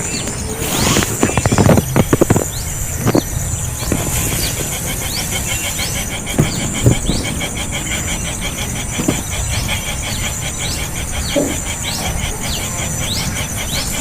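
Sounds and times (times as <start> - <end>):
background hiss and rumble: 0.0 - 14.0
young bird chirping: 0.0 - 14.0.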